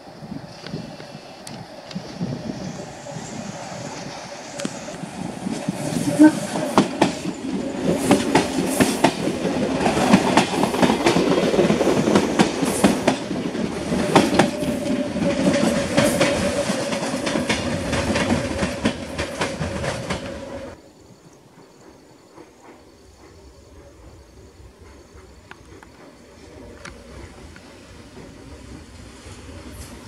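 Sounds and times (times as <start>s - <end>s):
train wheels clicking over joints: 0.5s - 20.8s, 21.5s - 30.0s.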